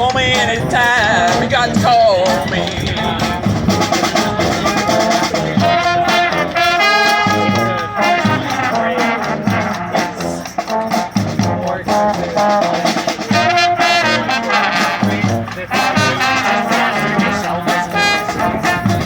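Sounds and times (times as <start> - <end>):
brass band playing: 0.0 - 19.0.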